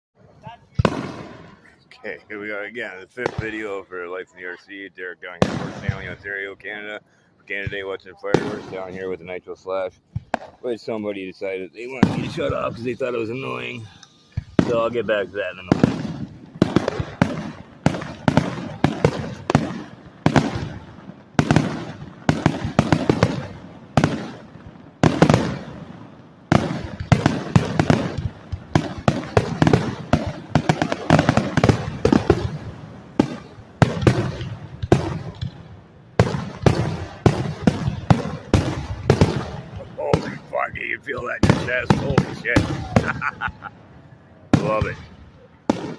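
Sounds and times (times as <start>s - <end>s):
fireworks bangs: 0.4s - 45.9s.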